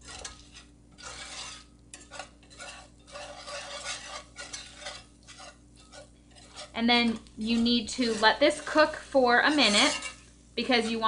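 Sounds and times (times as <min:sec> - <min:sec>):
wire whisk scraping in skillet: 0:00.0 - 0:11.0.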